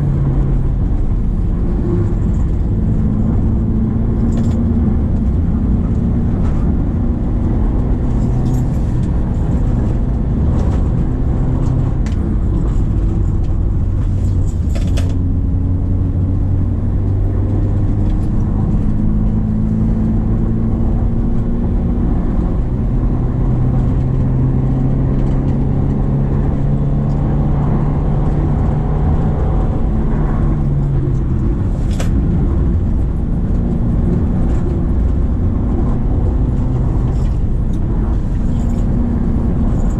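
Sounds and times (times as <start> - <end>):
car engine pulling uphill: 0.0 - 39.9.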